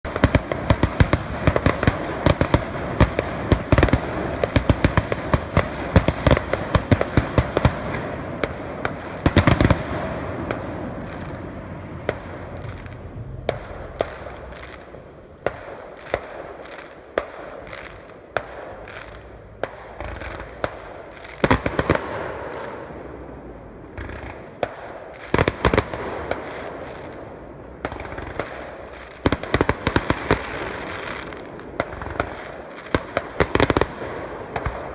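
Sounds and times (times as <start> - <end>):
fireworks bangs: 0.0 - 34.9
fireworks crackle: 0.0 - 34.9.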